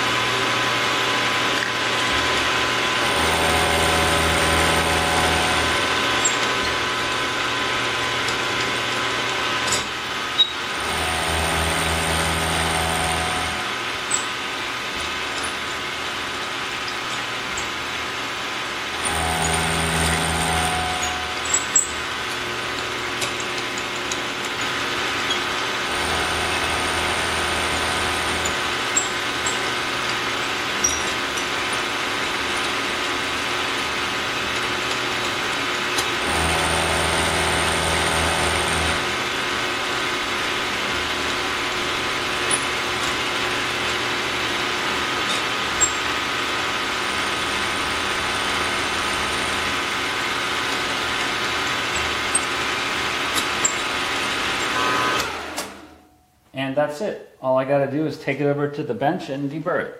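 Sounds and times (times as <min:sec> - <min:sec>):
milling machine whine: 0:00.0 - 0:56.0.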